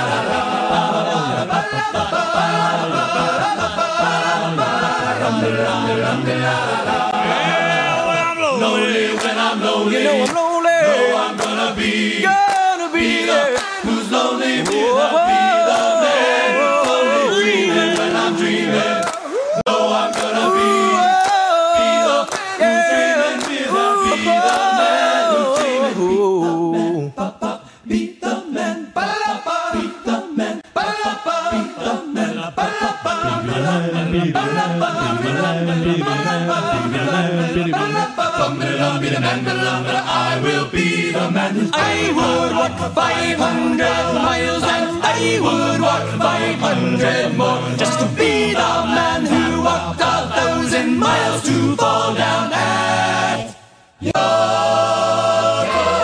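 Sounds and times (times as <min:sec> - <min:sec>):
a cappella group singing in harmony: 0:00.0 - 0:56.0.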